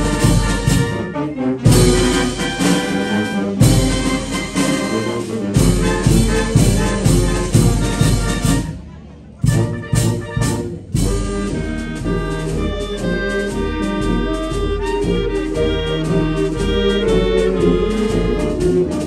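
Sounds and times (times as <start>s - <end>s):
wind band playing: 0.0s - 19.0s.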